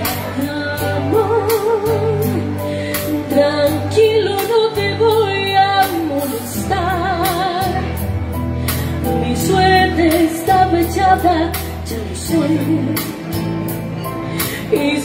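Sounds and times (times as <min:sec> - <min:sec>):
electronic keyboard chords: 0:00.0 - 0:15.0
woman singing a ballad: 0:00.0 - 0:15.0.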